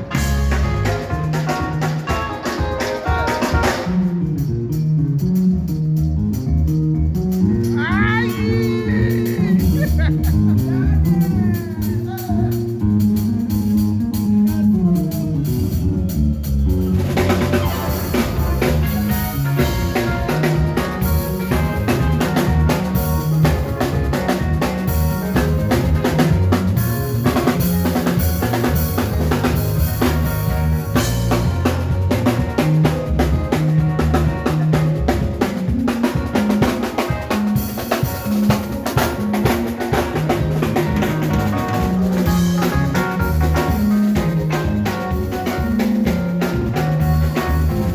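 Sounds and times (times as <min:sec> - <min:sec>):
band playing groove: 0:00.0 - 0:47.9
drum kit: 0:00.0 - 0:47.9.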